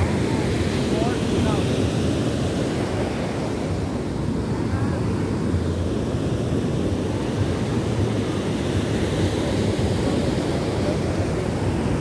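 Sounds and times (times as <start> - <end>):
surf washing on beach: 0.0 - 12.0.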